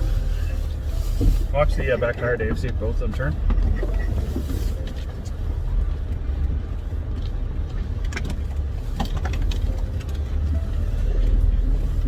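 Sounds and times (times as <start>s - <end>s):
off-road vehicle engine rumbling: 0.0s - 12.0s.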